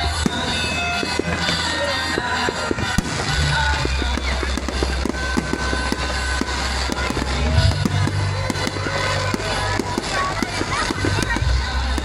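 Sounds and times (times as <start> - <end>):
fireworks popping and crackling: 0.0 - 12.0
music with deep bass: 0.0 - 12.0.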